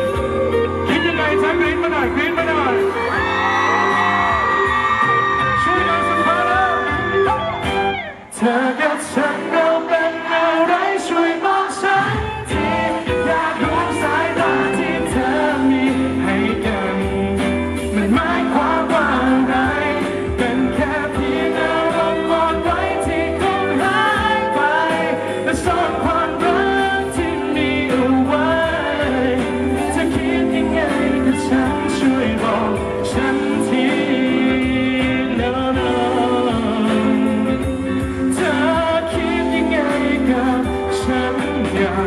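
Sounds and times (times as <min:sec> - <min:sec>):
backing music: 0:00.0 - 0:42.0
man singing into microphone: 0:08.2 - 0:42.0.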